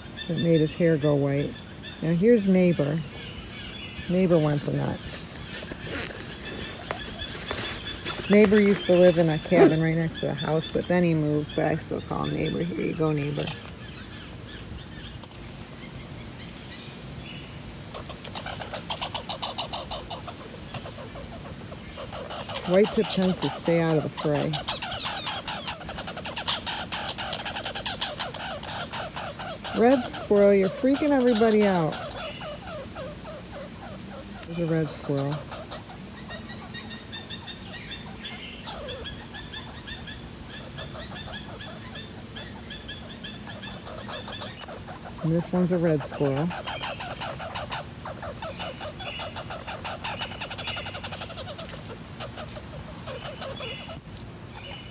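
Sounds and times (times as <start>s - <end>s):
squirrel rattling chatter call: 0.0s - 15.5s, 17.8s - 54.9s.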